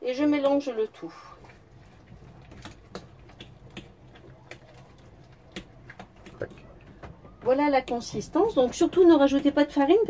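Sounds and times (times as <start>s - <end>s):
utensil stirring batter in bowl: 0.0s - 10.0s.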